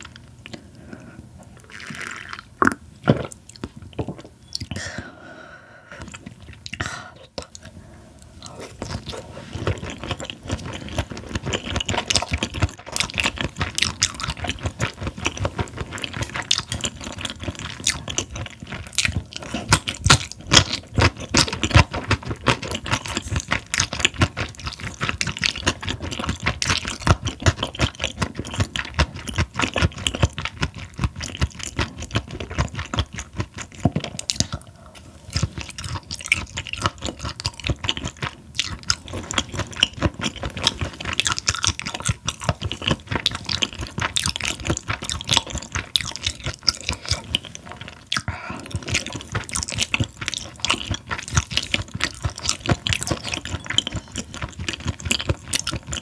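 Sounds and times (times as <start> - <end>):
chewing with mouth clicks: 6.0 - 56.0.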